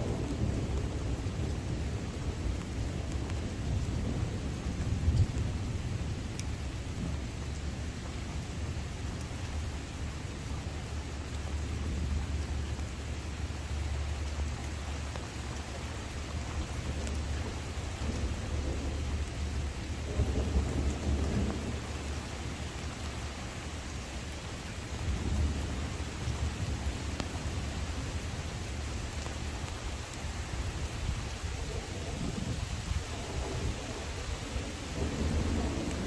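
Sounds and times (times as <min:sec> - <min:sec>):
steady rain: 0:00.0 - 0:36.0
thunder rumbling: 0:00.0 - 0:36.0.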